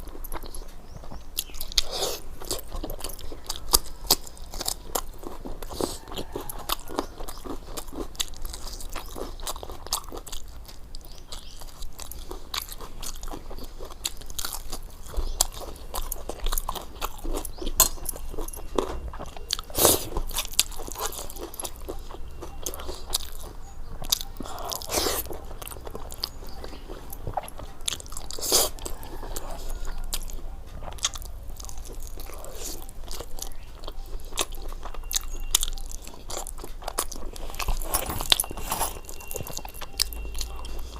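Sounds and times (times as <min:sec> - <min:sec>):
chewing with crisp crunches: 0:00.0 - 0:40.9.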